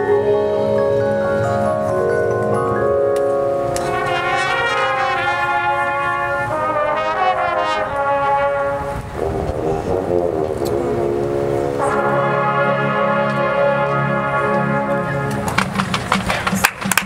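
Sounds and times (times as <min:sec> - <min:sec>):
marching band brass chords: 0:00.0 - 0:17.0.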